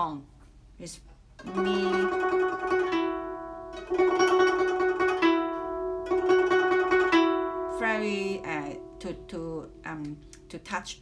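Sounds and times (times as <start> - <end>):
zither plucked slowly: 1.4 - 11.0.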